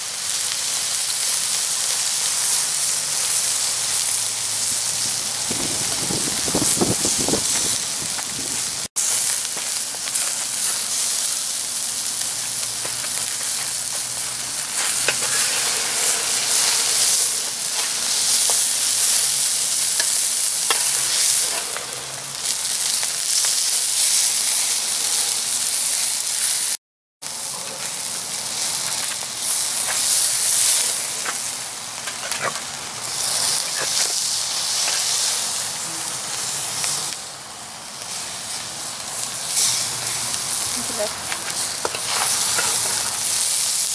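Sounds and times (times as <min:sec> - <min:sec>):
patties sizzling on a grill: 0:00.0 - 0:43.9.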